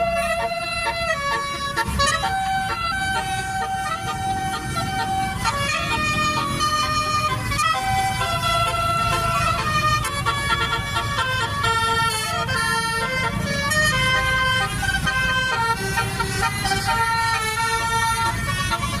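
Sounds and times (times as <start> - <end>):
bus engine rumble: 0.0 - 19.0
multi-tone bus horn melody: 0.0 - 19.0.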